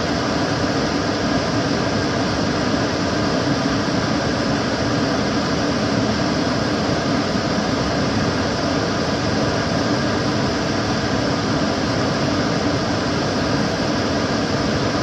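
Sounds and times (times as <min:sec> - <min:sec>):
extractor fan running: 0:00.0 - 0:15.0.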